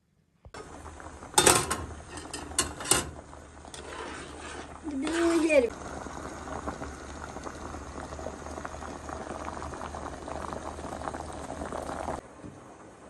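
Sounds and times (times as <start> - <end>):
water boiling in metal pot: 0.6 - 13.0.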